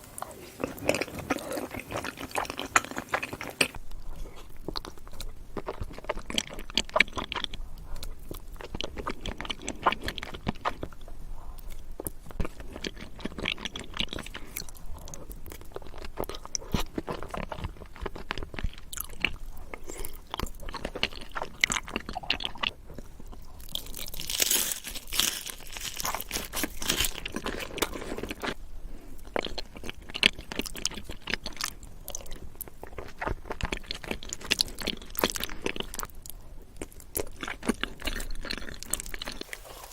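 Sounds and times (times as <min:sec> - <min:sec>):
person crunching and chewing food: 0:00.0 - 0:39.9.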